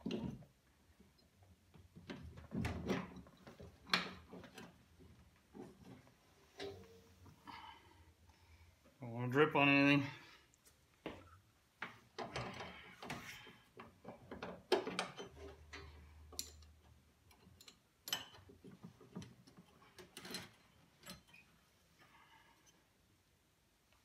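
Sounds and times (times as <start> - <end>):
rustling of hands and parts: 0.0 - 9.0, 10.4 - 24.0.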